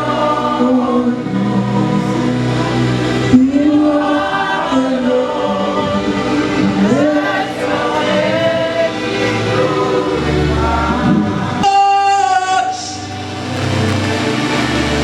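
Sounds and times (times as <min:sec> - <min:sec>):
backing music: 0:00.0 - 0:15.0
gospel choir singing: 0:00.0 - 0:15.0.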